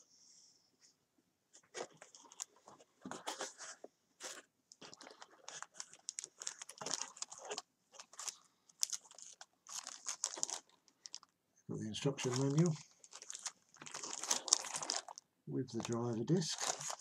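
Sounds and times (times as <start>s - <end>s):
plastic and cardboard crinkling: 1.6s - 17.0s.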